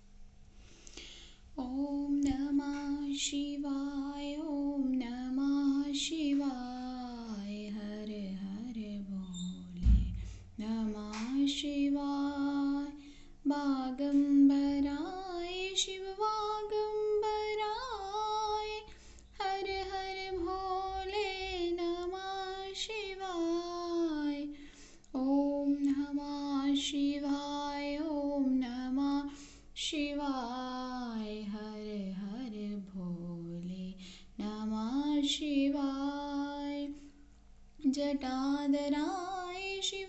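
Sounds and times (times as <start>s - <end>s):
woman singing: 1.6s - 37.1s, 37.8s - 40.0s.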